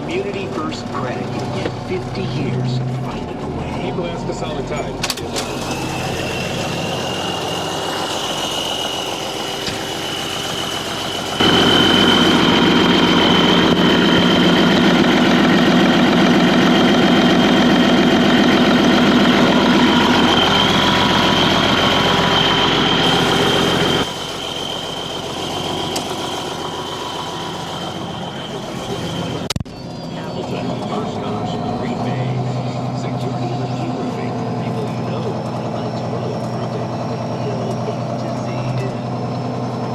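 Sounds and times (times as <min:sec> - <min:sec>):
steady high whine: 0:00.0 - 0:39.9
tractor diesel engine running: 0:00.0 - 0:39.9.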